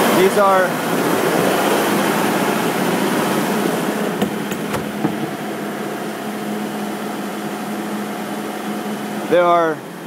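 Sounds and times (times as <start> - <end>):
diesel generator running: 0.0 - 10.0.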